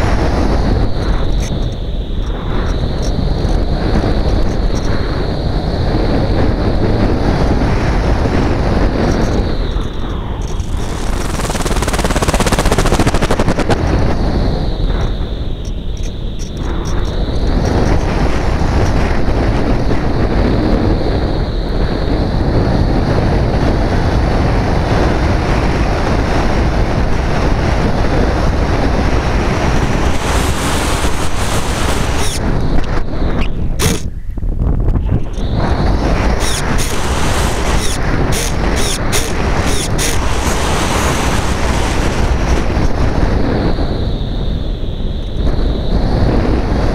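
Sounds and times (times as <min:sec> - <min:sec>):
rushing wind noise: 0:00.0 - 0:46.9.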